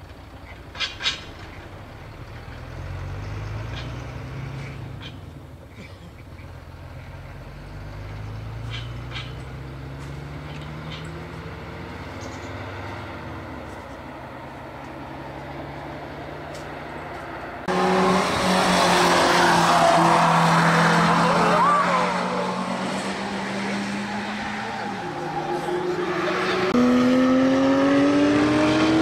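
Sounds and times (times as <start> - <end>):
truck engine humming: 0.0 - 28.1.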